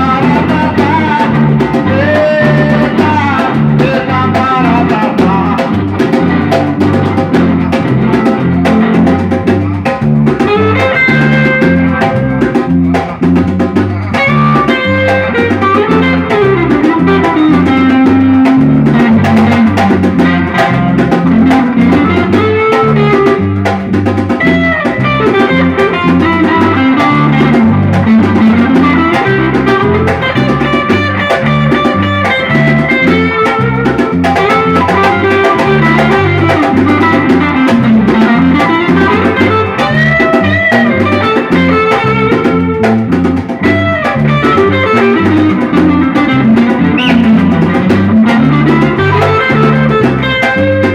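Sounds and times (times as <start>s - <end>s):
band playing: 0.0s - 50.9s
drums and percussion groove: 0.0s - 50.9s
guitar lines: 0.0s - 50.9s.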